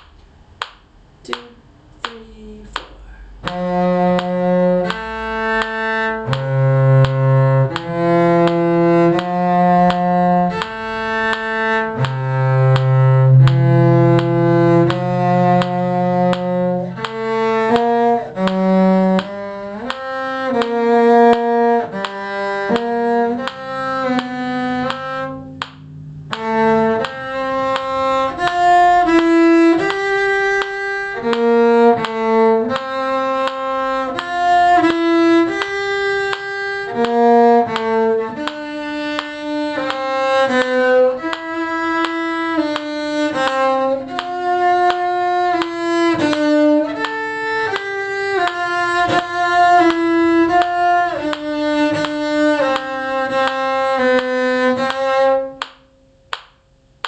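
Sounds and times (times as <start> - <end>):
cello and violin duet: 0.0 - 56.4.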